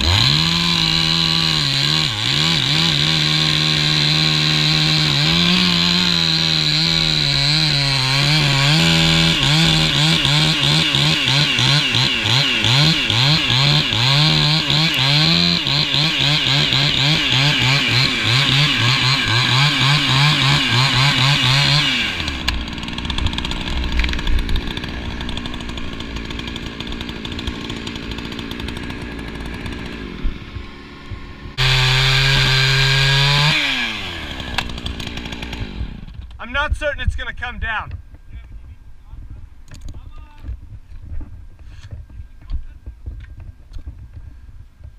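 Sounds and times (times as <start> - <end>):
chainsaw cutting wood: 0.0 - 36.5.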